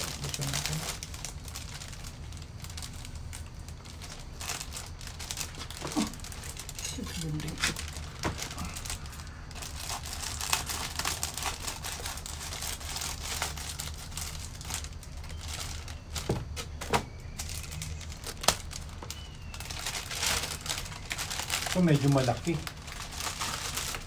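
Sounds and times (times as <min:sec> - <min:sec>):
plastic sleeve crinkling: 0:00.0 - 0:24.0.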